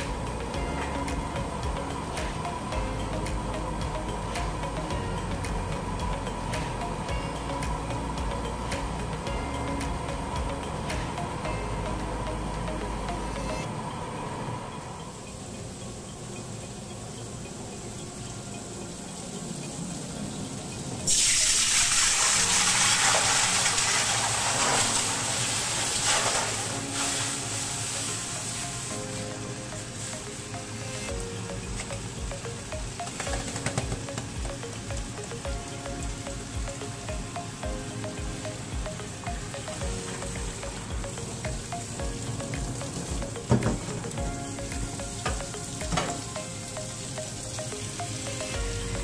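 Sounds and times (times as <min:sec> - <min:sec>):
background music with steady beat: 0:00.0 - 0:49.0
water hissing on hot skillet: 0:00.0 - 0:49.0.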